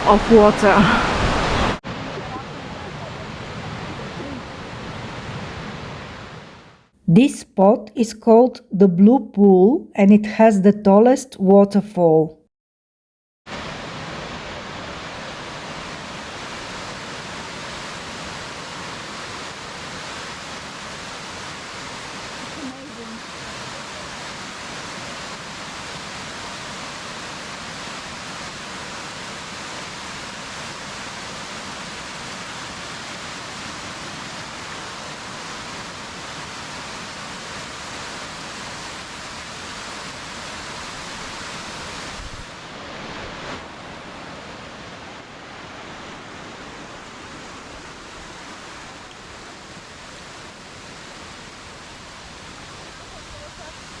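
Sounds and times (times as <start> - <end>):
waterfall roaring: 0.0 - 6.8, 13.5 - 54.0.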